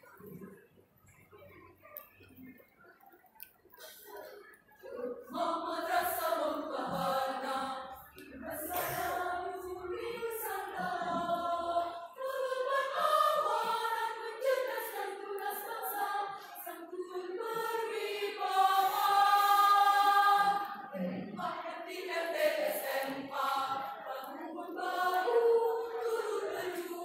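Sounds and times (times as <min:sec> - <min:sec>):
women's choir singing: 0:04.8 - 0:27.0.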